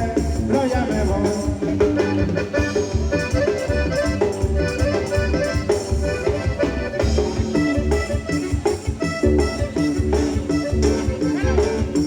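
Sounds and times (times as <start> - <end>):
latin band instrumental music: 0.0 - 12.0.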